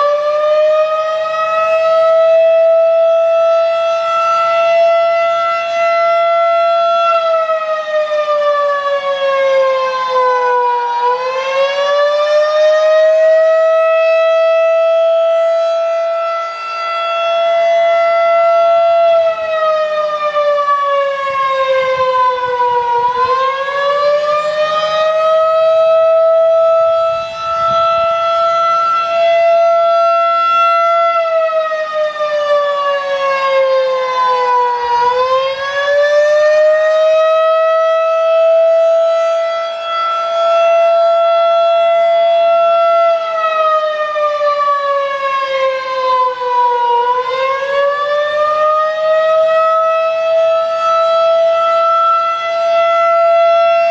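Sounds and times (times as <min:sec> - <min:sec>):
warning siren wailing: 0:00.0 - 0:53.9.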